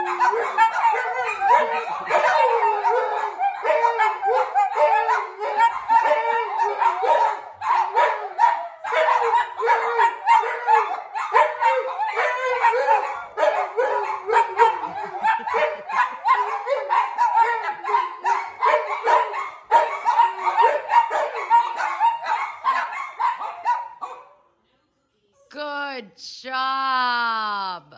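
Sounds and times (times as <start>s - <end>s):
small dogs howling: 0.0s - 24.2s
dogs yipping and barking: 0.0s - 24.4s.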